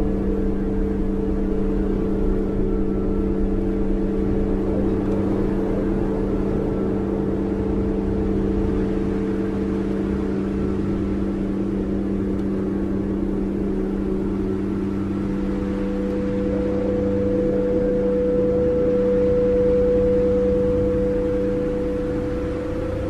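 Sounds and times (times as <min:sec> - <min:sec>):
low electronic drone: 0:00.0 - 0:23.0.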